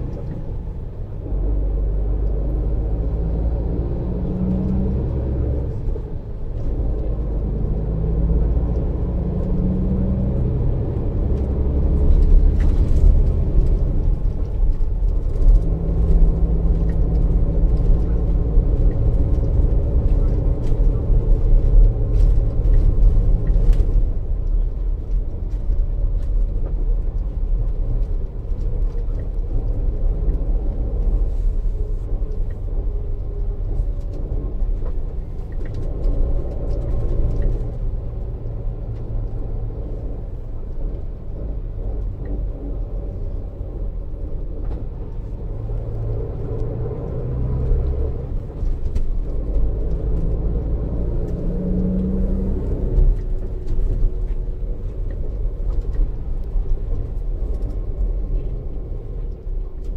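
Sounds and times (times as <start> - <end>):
diesel engine rumble: 0.0 - 59.9
road noise: 0.0 - 59.9.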